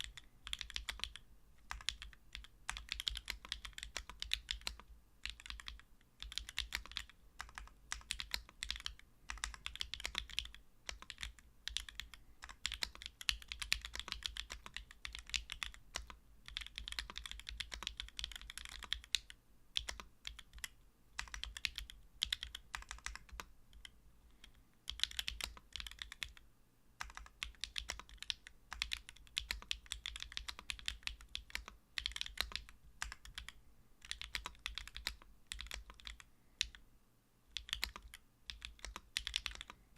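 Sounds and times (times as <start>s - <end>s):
mechanical keyboard typing: 0.0s - 26.4s, 27.0s - 36.8s, 37.5s - 39.8s.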